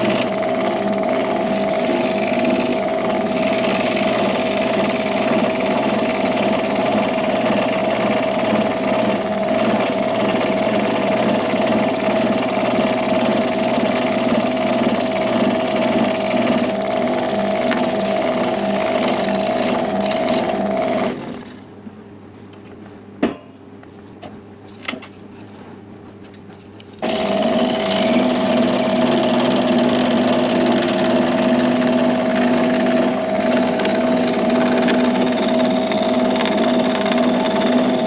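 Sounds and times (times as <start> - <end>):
electric saw whining: 0.0 - 21.3, 27.0 - 38.0.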